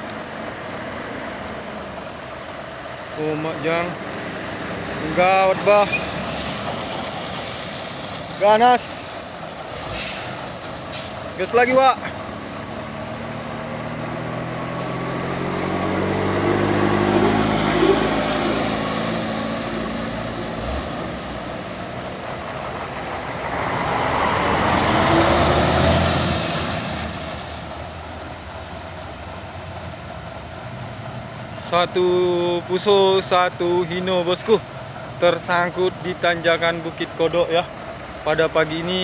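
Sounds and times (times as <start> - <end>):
diesel truck engine revving: 0.0 - 39.0.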